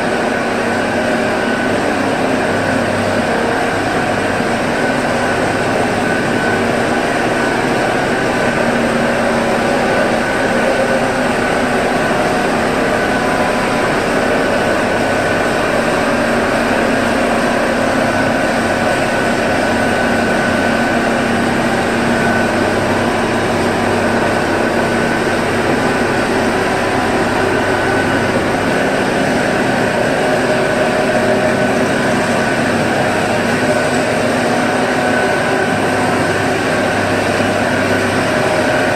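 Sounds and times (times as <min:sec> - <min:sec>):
grinding machine running: 0:00.0 - 0:38.9.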